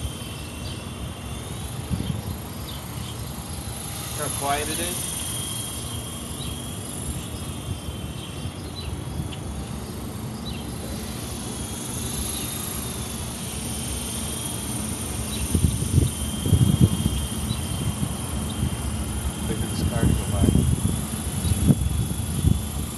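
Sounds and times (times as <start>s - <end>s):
rc helicopter motor whine: 0.0s - 22.9s.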